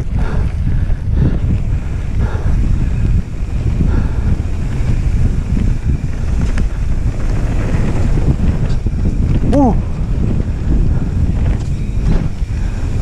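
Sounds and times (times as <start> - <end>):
bike tyres rumbling on dirt: 0.0 - 13.0
wind buffeting microphone: 0.0 - 13.0.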